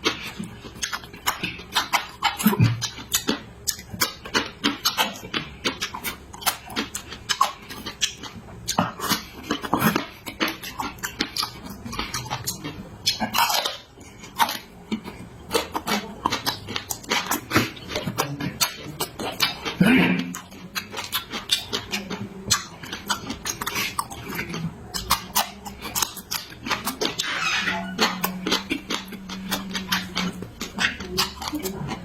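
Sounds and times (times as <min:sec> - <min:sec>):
person chewing and lip-smacking: 0:00.0 - 0:32.0
slurping: 0:00.0 - 0:32.0
wet mouth clicks: 0:00.0 - 0:32.0.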